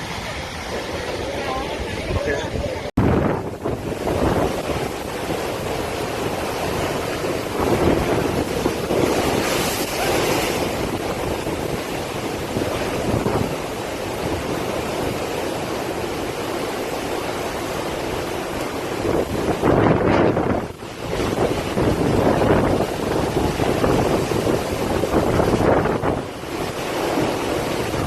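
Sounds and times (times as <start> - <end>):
gusty wind on microphone: 0.0 - 28.0.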